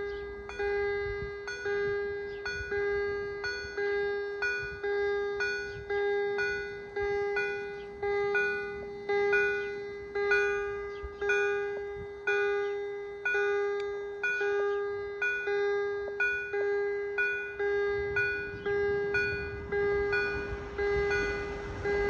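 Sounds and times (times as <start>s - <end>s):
level crossing warning bell ringing: 0.0s - 22.0s.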